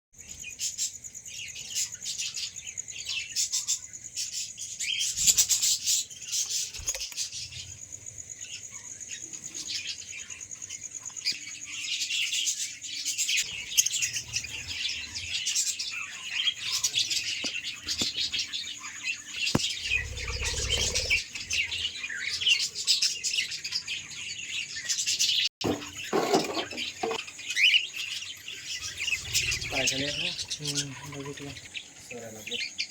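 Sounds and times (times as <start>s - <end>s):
lovebirds chirping: 0.2s - 32.9s.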